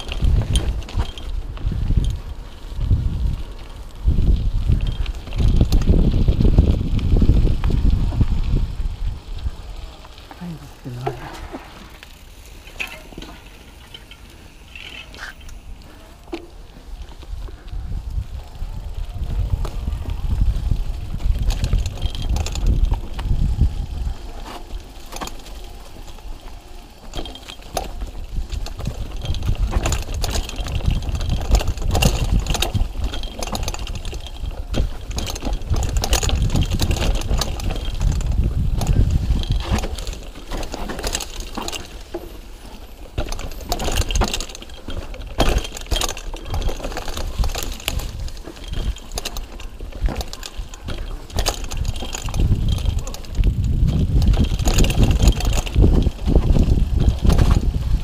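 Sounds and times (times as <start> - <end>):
wind buffeting microphone: 0.0 - 10.0, 16.6 - 58.0
bike rattling over bumps: 0.0 - 58.0
bike tyres rolling on dirt: 0.0 - 58.0.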